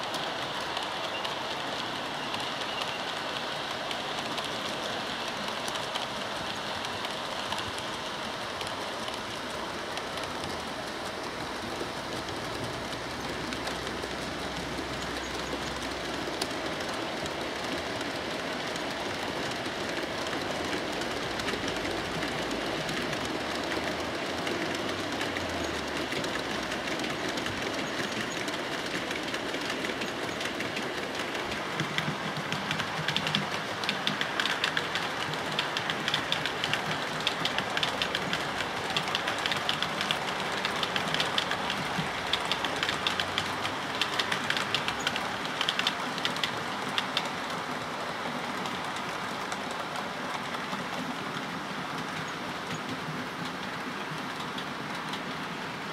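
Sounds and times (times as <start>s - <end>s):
model train wheels rattling: 0.0s - 55.7s
fine clicks on rails: 0.0s - 55.9s.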